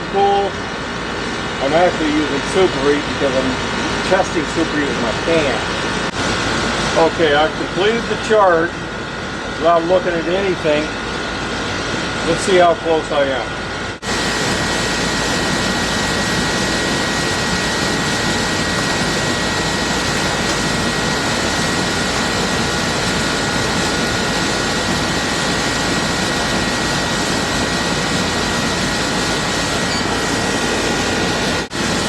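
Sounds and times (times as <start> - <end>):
air conditioner fan rushing: 0.0 - 32.0.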